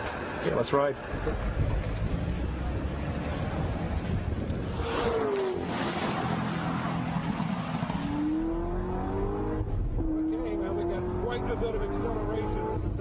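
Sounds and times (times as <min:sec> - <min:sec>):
car engine accelerating: 0:01.2 - 0:13.0.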